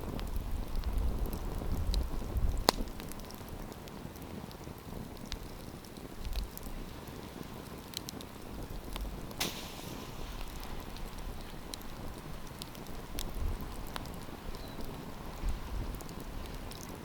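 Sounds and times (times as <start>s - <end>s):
campfire crackling and popping: 0.0s - 17.0s
hiss and rumble of flames: 0.0s - 17.0s.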